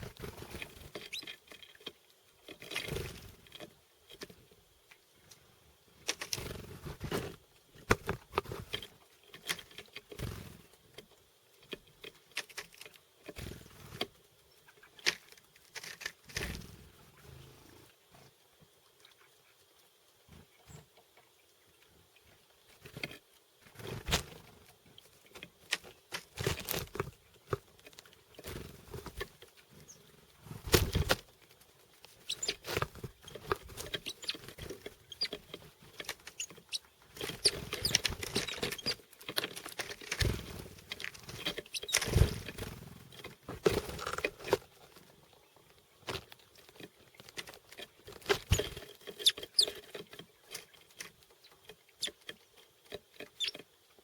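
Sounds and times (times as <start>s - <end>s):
birds tapping at seeds: 0.0s - 4.4s, 6.0s - 17.9s, 21.8s - 54.0s
birds scuffling: 0.0s - 54.0s.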